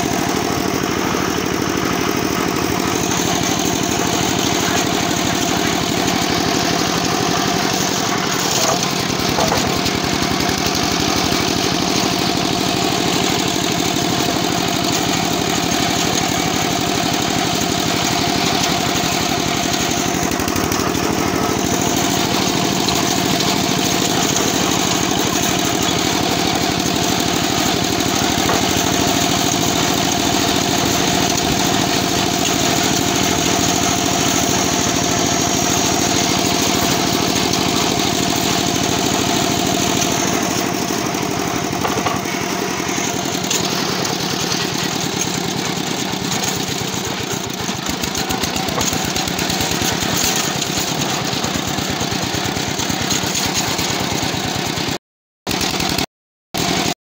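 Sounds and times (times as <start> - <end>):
diesel engine running: 0.0 - 54.8.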